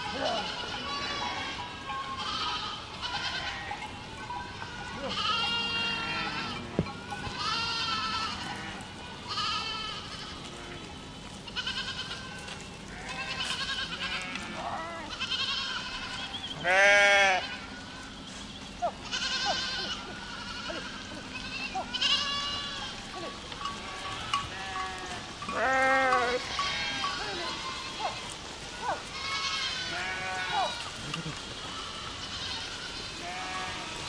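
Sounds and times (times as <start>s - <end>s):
goats bleating: 0.0s - 34.0s.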